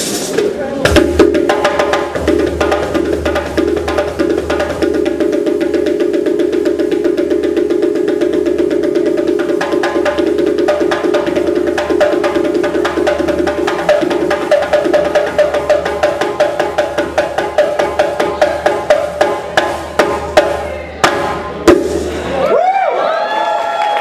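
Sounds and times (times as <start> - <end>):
music with fast drumming: 0.0 - 22.4.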